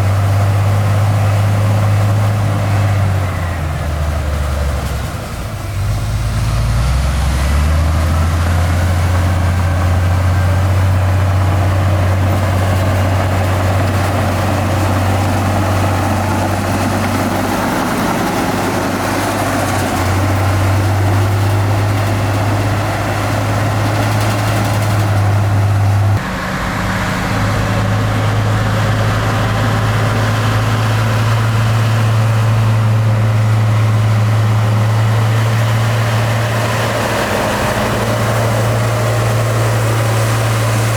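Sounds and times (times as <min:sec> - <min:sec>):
heavy diesel engine droning: 0:00.0 - 0:40.9.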